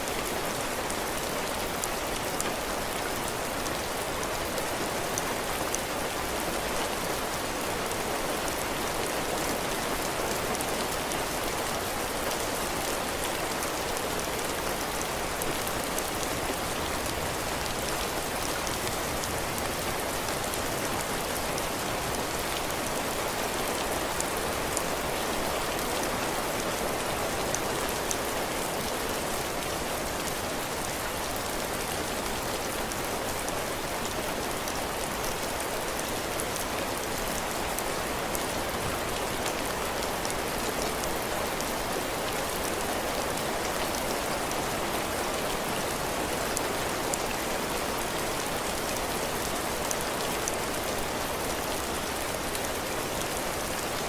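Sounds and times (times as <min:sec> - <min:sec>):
heavy rain pattering on a roof: 0:00.0 - 0:54.0.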